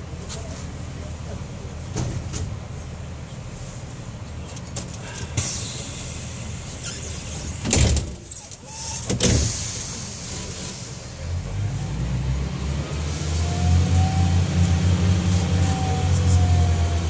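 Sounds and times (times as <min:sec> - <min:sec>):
low engine rumble: 0:00.0 - 0:17.0
train cabin rumble and hiss: 0:00.0 - 0:17.0.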